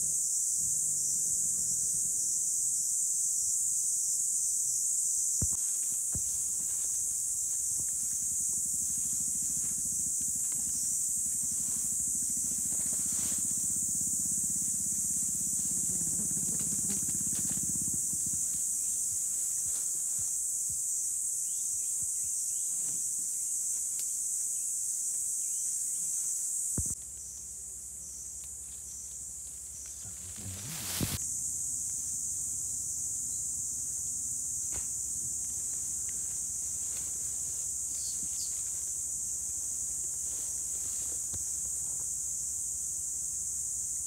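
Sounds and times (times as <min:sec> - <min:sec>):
insects chirring: 0:00.0 - 0:44.0.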